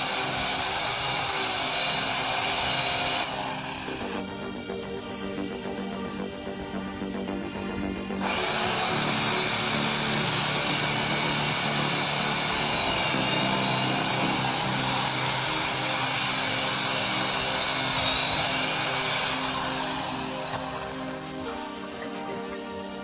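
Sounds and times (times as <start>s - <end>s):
large machine high-pitched hiss: 0.0s - 22.3s
background music: 0.0s - 23.0s.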